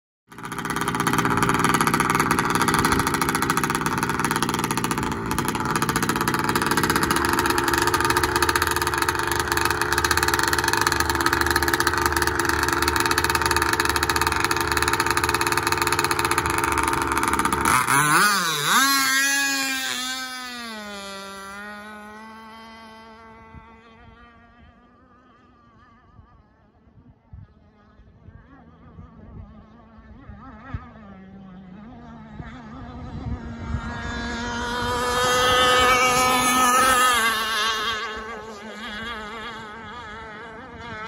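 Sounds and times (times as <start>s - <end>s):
model boat engine running: 0.3s - 41.0s.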